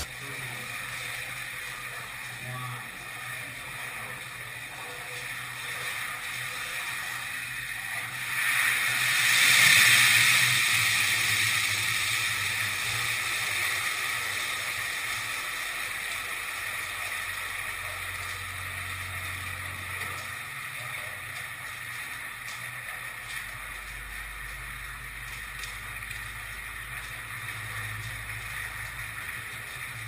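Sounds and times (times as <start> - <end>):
burning oil hissing: 0.0 - 30.0
hot oil hissing and bubbling: 0.0 - 30.0.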